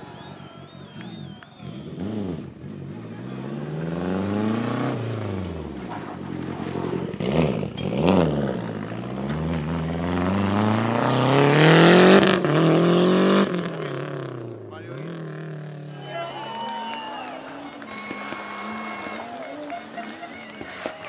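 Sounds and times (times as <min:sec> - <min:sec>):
rally car engine revving: 0:00.0 - 0:16.6, 0:17.2 - 0:21.0.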